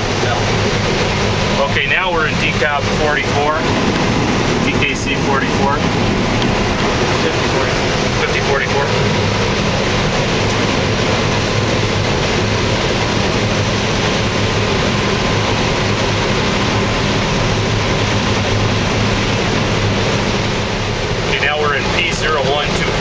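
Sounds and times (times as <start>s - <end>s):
loud rushing noise: 0.0s - 23.0s
low machine hum: 0.0s - 23.0s.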